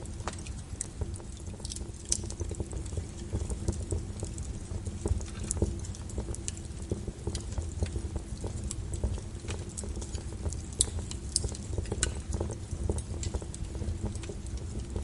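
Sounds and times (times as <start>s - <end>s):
fire flames rumbling: 0.0s - 15.0s
fire pops and snaps: 0.0s - 15.0s.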